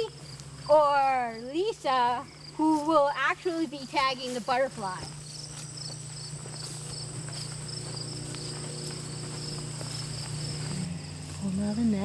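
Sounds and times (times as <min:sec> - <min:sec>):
high-pitched insect trill: 0:00.0 - 0:12.0
low steady hum: 0:00.0 - 0:12.0
pulsed cricket chirp: 0:00.0 - 0:12.0.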